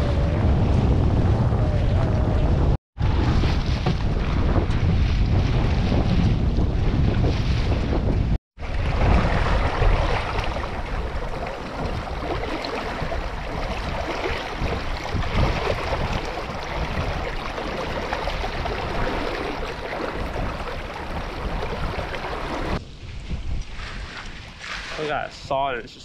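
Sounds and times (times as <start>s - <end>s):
water rushing past boat stern: 0.0s - 22.8s.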